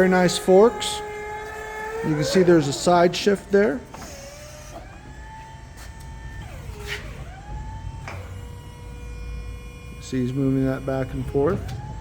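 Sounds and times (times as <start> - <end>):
hydraulic pump motor whining: 0.0 - 12.0.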